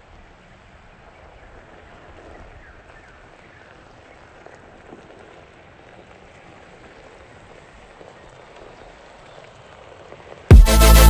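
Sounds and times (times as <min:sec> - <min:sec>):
car tyres rolling over gravel: 0:00.0 - 0:10.5.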